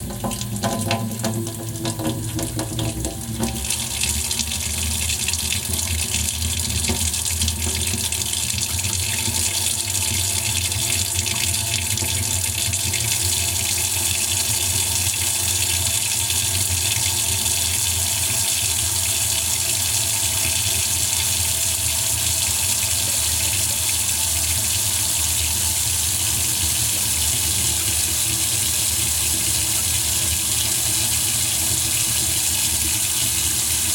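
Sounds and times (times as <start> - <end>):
tap running into sink: 0.0 - 33.9.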